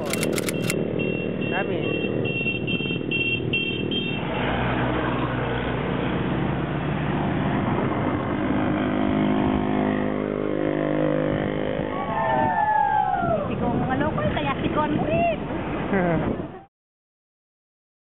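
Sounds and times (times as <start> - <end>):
vehicles driving past: 0.0 - 16.6.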